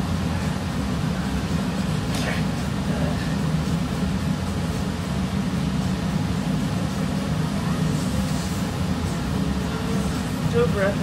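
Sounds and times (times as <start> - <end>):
low droning background noise: 0.0 - 11.0.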